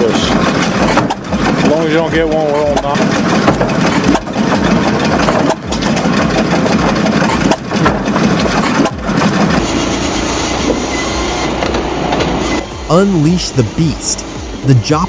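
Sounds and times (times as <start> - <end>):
engine running loudly: 0.0 - 15.0.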